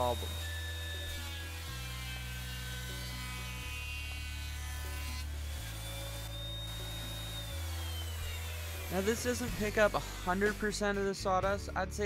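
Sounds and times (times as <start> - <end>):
planer motor whine: 0.0 - 11.0.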